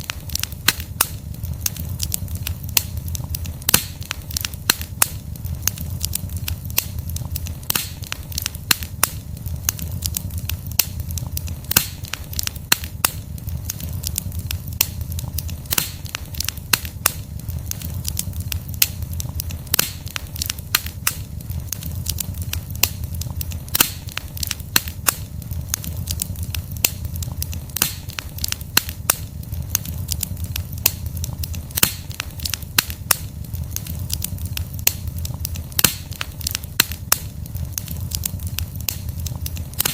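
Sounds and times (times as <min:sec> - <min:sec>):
crackles and pops of logs: 0:00.0 - 0:39.9
low rumble of flames: 0:00.0 - 0:39.9.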